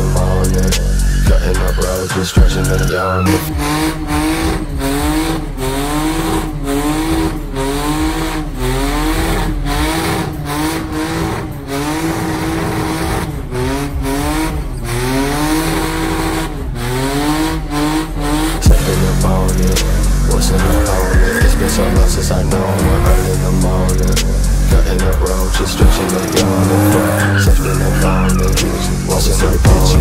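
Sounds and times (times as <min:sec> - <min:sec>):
car engine revving: 0:00.0 - 0:30.0
tyres squealing: 0:00.0 - 0:30.0.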